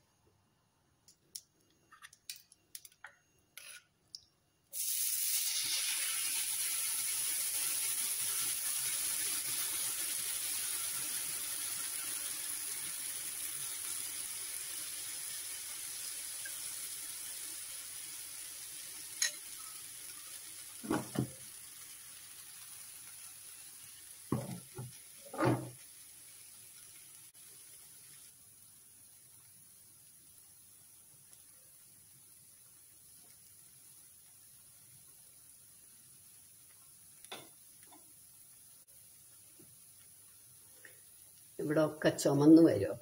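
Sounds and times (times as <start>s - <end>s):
batter sizzling on a hot pan: 4.7s - 42.9s.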